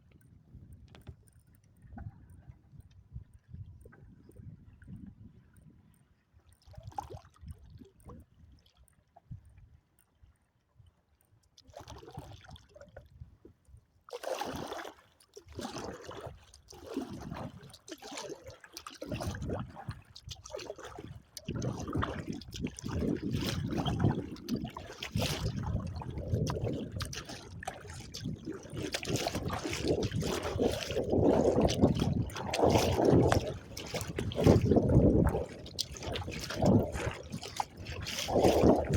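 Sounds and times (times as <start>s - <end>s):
water splashing around kayak: 0.0s - 38.9s.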